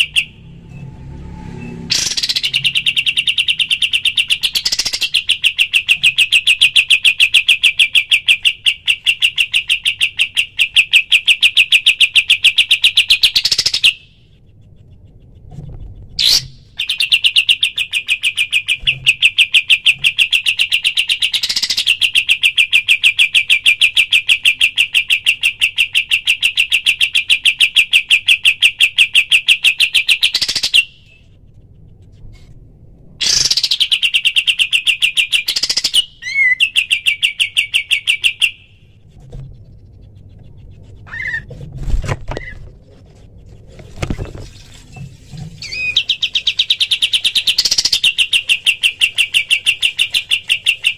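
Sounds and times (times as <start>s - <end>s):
bird trilling: 0.0s - 31.2s, 33.2s - 38.8s, 40.0s - 41.5s, 45.6s - 50.9s
bird chirps: 0.0s - 32.5s, 33.2s - 39.0s, 39.6s - 41.5s, 45.6s - 50.9s.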